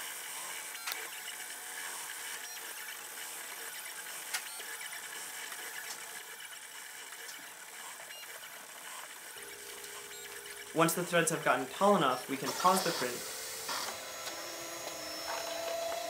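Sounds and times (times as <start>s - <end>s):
stepper motors whirring: 0.0s - 16.0s.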